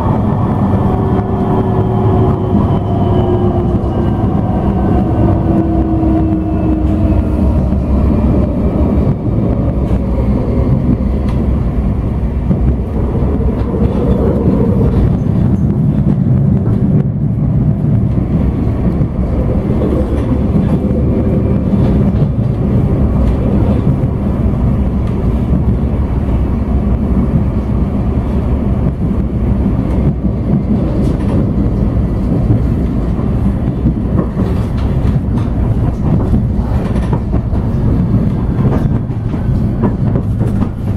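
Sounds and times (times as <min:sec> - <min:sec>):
tram wheels rumbling on rail: 0:00.0 - 0:40.9.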